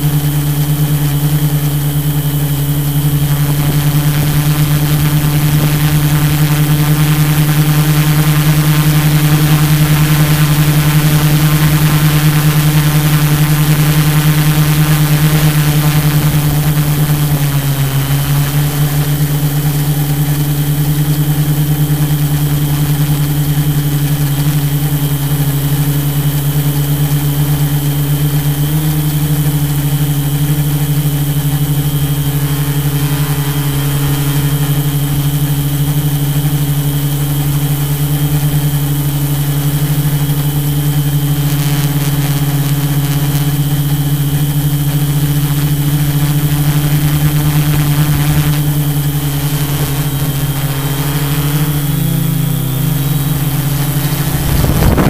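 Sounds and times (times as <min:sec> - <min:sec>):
drone motors buzzing hum: 0:00.0 - 0:55.0.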